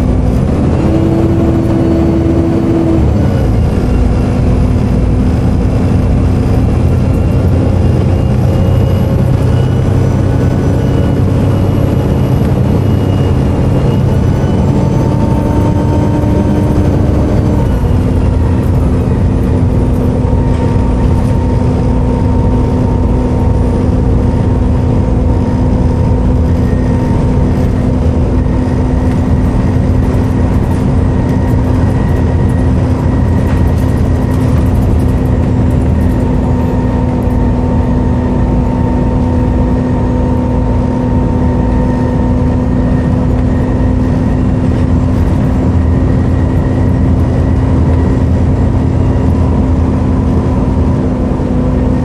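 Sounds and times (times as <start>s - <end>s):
bus diesel engine rumbling: 0.0s - 52.0s
turbo whine: 0.0s - 52.0s.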